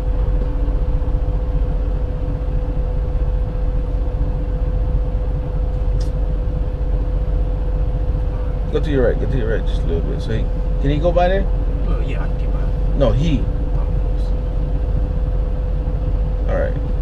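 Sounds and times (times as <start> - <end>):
diesel engine rumbling: 0.0 - 17.0
steady hum: 0.0 - 17.0.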